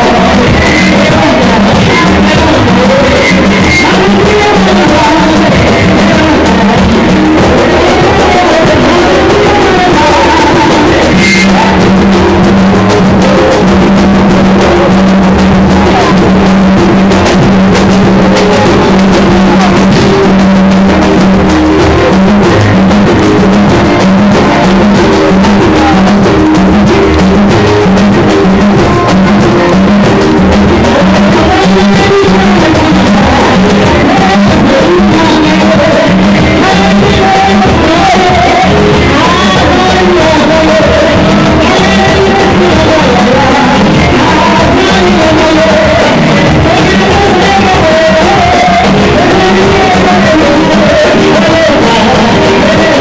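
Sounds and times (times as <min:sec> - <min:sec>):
group singing worship music: 0:00.0 - 0:53.0.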